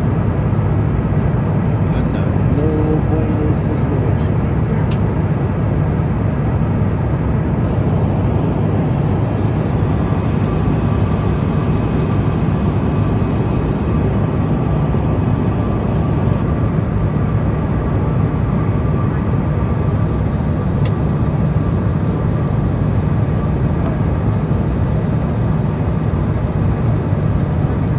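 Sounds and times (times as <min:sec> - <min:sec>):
airplane engine drone in cabin: 0:00.0 - 0:27.9.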